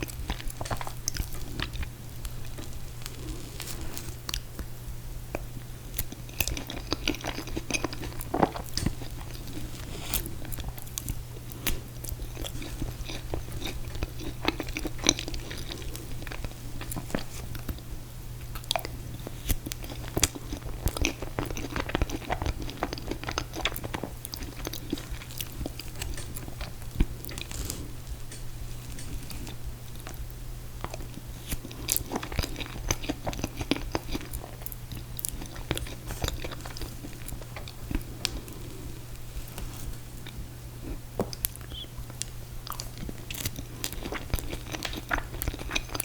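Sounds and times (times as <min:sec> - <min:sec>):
steady low hum: 0:00.0 - 0:46.0
wet chewing and biting: 0:05.9 - 0:17.8, 0:18.5 - 0:38.6, 0:40.2 - 0:46.0.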